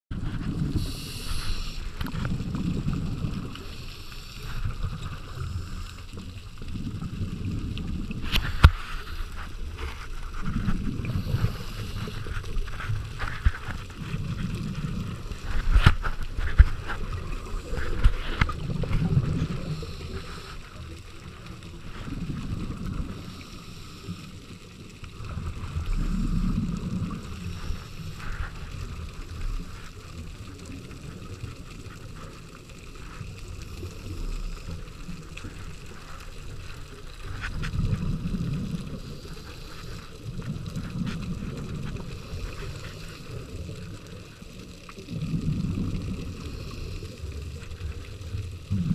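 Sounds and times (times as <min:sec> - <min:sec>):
underwater regulator bubbles: 0:00.1 - 0:48.9.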